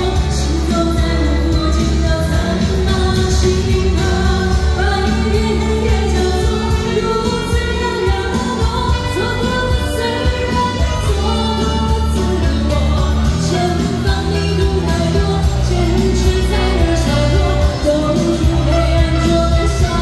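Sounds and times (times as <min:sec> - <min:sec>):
pop song over sound system: 0:00.0 - 0:20.0.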